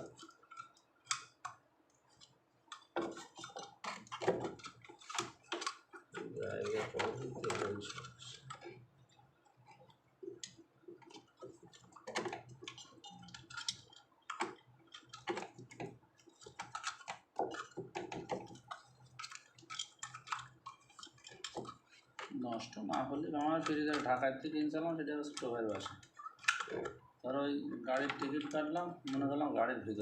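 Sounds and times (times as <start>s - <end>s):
light clicks and taps: 0.0s - 24.2s, 25.2s - 27.0s, 27.8s - 29.4s.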